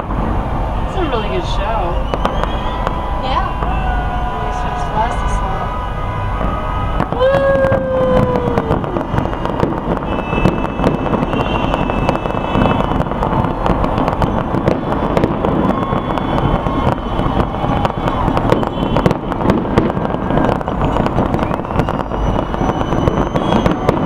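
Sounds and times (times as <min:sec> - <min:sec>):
distant fireworks booming: 0:00.0 - 0:24.0
rapid crackling pops: 0:00.9 - 0:03.8, 0:06.3 - 0:24.0.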